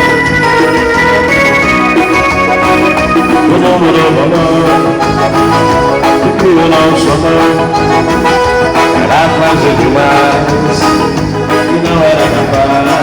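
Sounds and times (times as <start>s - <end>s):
instrumental band dance music: 0.0s - 13.0s.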